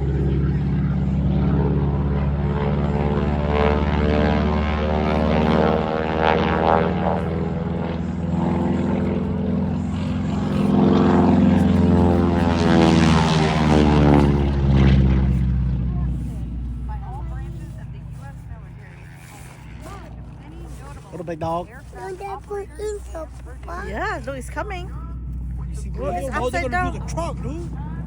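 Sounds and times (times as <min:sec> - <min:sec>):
propeller airplane flying past: 0:00.0 - 0:28.0.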